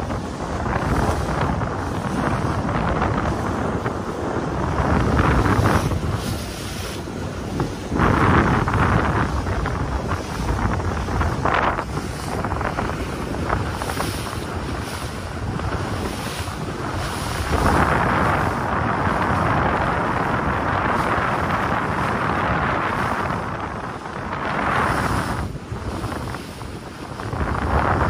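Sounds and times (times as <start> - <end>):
water rushing along boat hull: 0.0 - 28.0
wind buffeting microphone: 0.0 - 28.0.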